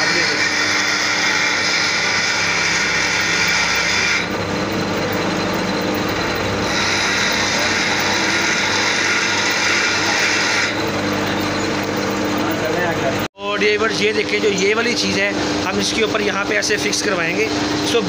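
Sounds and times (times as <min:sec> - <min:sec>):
metal lathe humming: 0:00.0 - 0:18.0.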